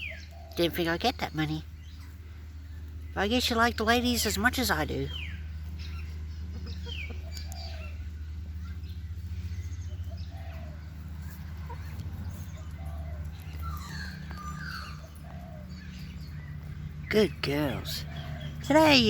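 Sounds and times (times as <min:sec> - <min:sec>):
hens calling and chirping: 0:00.0 - 0:19.0
steady low hum: 0:00.0 - 0:19.0.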